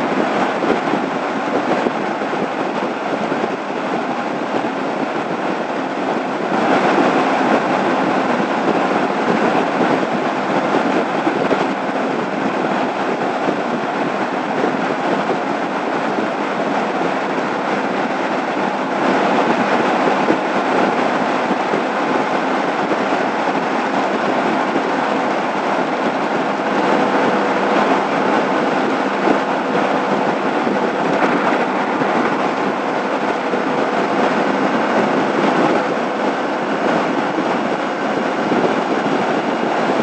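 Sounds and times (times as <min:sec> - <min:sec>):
wind and road noise: 0:00.0 - 0:40.0.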